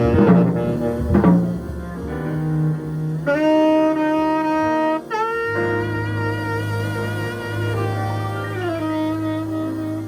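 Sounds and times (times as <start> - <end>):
double bass notes: 0.0 - 10.0
jazz quartet playing: 0.0 - 10.0.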